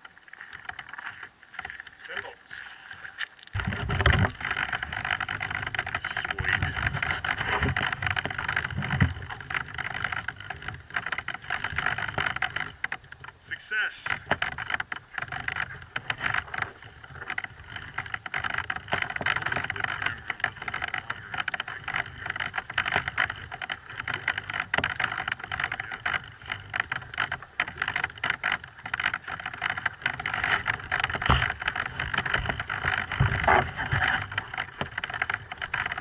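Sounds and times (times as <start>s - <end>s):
crackling wind noise: 0.0s - 36.0s.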